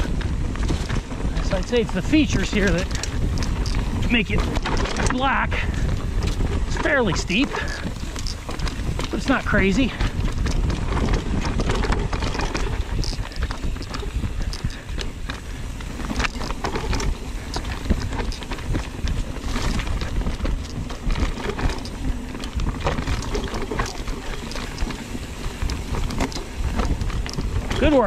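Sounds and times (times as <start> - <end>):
bike clicks and rattles: 0.0 - 28.0
bike tyres on dirt and rock: 0.0 - 28.0
wind rumble on microphone: 0.0 - 28.0.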